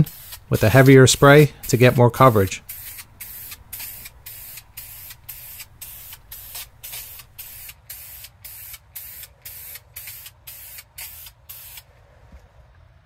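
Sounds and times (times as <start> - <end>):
aerosol can spraying: 0.0 - 11.8.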